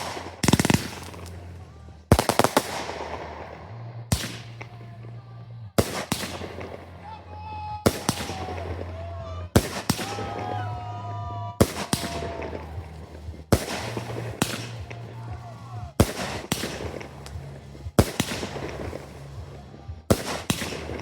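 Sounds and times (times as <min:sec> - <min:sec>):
fireworks bangs echoing: 0:00.0 - 0:04.9, 0:05.8 - 0:07.1, 0:07.8 - 0:10.8, 0:11.6 - 0:21.0.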